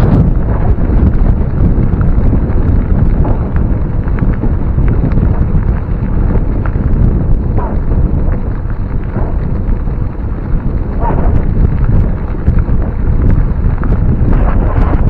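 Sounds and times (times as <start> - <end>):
sharp gravel ticks: 0.0 - 15.0
tyres rolling on gravel: 0.0 - 15.0
wind buffeting microphone: 0.0 - 15.0.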